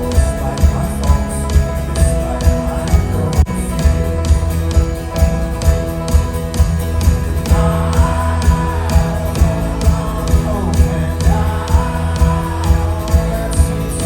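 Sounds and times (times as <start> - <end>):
bass drum beat: 0.0 - 14.0
folk-rock band playing live: 0.0 - 14.0.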